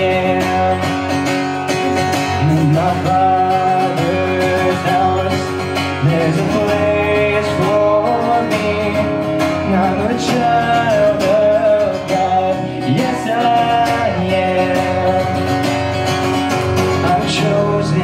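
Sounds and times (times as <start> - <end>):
acoustic guitar strumming: 0.0 - 18.0
man singing: 0.0 - 18.0.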